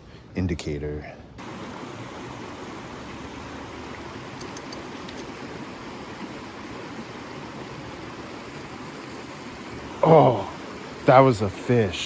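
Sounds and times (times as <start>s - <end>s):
creek water rushing: 1.4s - 12.0s.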